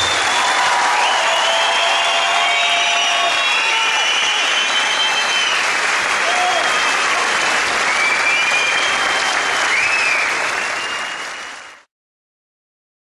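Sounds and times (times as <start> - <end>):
audience applauding: 0.0 - 11.9
whistles from audience: 0.0 - 11.9.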